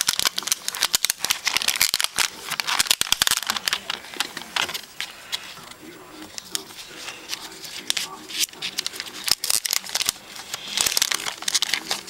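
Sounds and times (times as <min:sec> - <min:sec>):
packaging wrap crinkling: 0:00.0 - 0:12.0.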